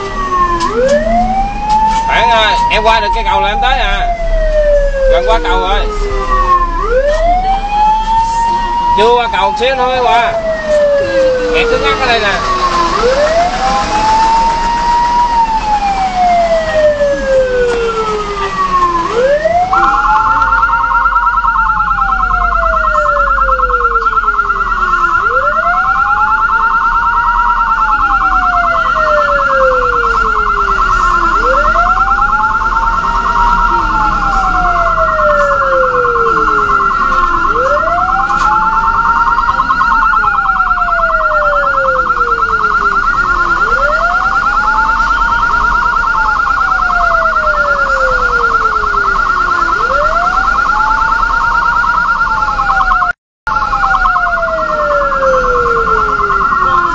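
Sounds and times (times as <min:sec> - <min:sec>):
ambulance siren wailing: 0:00.0 - 0:56.9.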